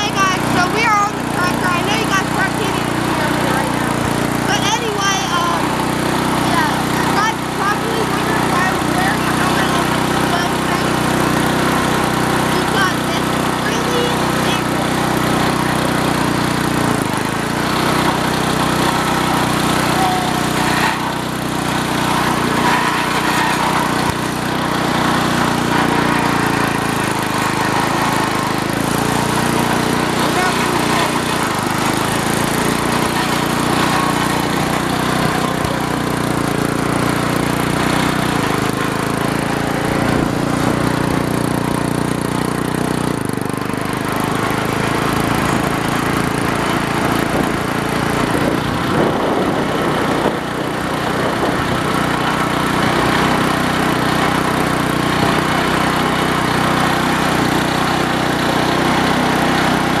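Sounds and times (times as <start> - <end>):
riding tractor engine running: 0.0 - 60.0.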